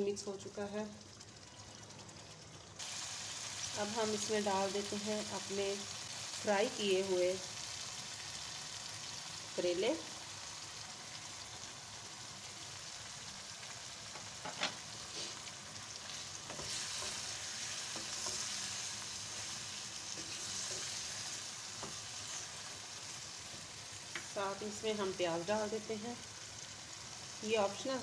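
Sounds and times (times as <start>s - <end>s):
curry sizzling in a pan: 0.0s - 28.0s.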